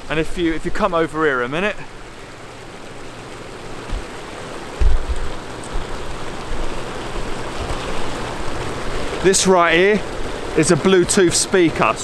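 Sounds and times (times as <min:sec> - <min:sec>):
hot tub jets churning water: 0:00.0 - 0:12.0.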